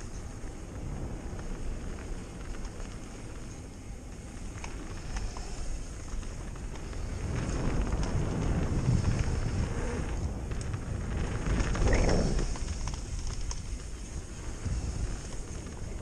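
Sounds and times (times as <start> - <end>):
bike clicks and rattles: 0.0 - 16.0
tyres rolling over dirt: 0.0 - 16.0
wind rushing over microphone: 0.0 - 16.0.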